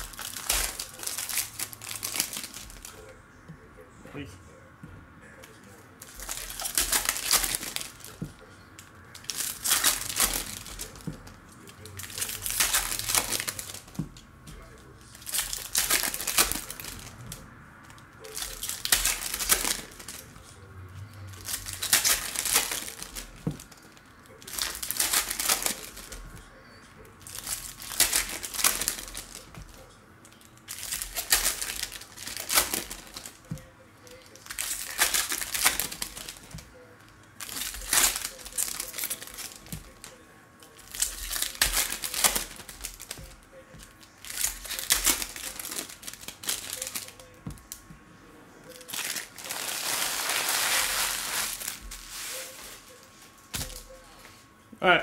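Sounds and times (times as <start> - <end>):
foil wrappers crinkling and tearing: 0.0 - 3.2, 6.0 - 47.8, 48.7 - 54.3.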